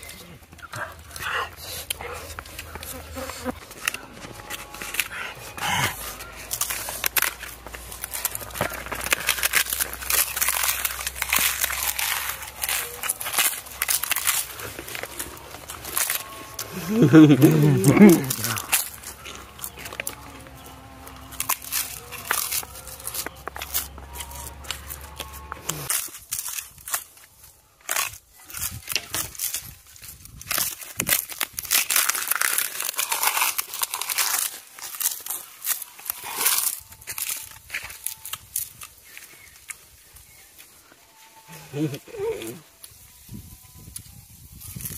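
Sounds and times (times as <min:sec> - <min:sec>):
crackly chewing of flatbread: 0:00.0 - 0:44.9
paper plates crinkling: 0:00.0 - 0:44.9.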